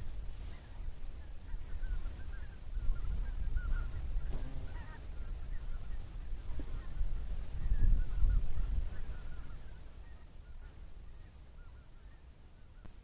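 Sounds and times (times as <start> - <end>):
wetland birds calling: 0.4 - 12.9.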